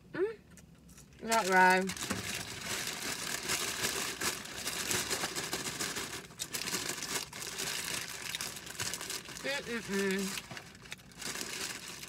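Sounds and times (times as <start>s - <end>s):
paper wrapping crinkling: 1.2s - 12.0s.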